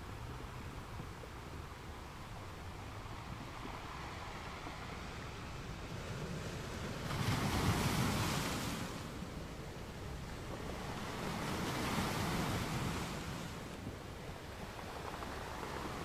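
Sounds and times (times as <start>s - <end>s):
sea waves washing: 2.7s - 16.0s.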